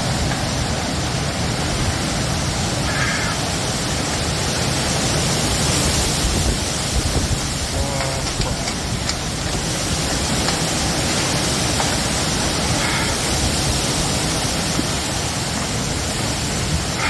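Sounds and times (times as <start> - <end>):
heavy rain: 0.0 - 17.0
strong wind: 0.0 - 17.0.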